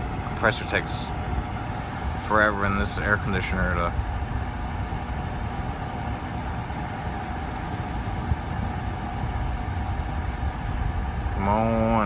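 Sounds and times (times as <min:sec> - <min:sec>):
air conditioner fan whirring: 0:00.0 - 0:12.0.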